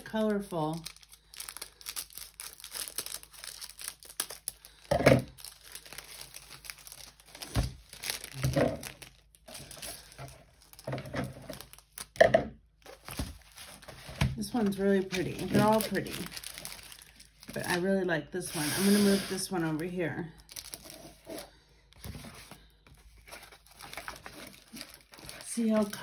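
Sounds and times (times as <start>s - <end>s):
plastic packaging crinkling: 0.0s - 12.2s, 12.8s - 17.8s, 20.4s - 26.0s.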